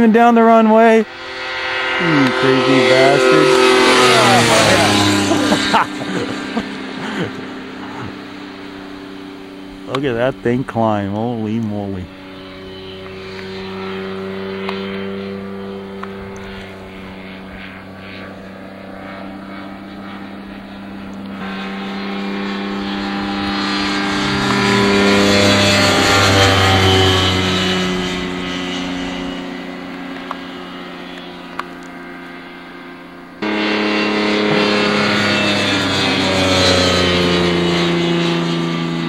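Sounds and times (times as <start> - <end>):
light airplane engine and propeller: 0.0 - 39.0.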